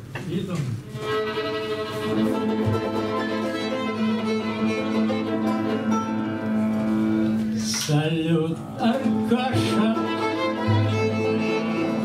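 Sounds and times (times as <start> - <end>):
small live band playing: 0.0 - 12.0
violin long held notes: 0.9 - 7.6, 9.1 - 12.0.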